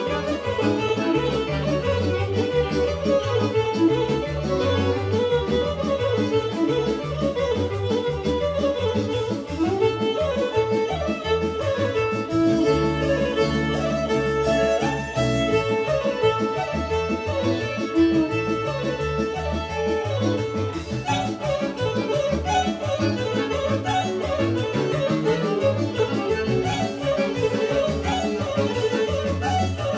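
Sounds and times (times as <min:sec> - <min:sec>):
bass line: 0:00.0 - 0:29.9
folk dance band playing: 0:00.0 - 0:29.9
violin melody: 0:00.0 - 0:29.9.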